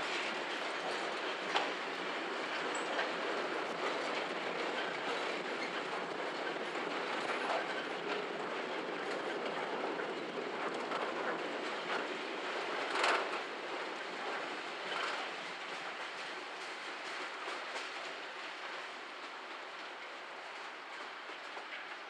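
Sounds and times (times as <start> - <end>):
clacks over rail joints: 0.0 - 22.0
train wheels rumbling on rails: 0.0 - 22.0.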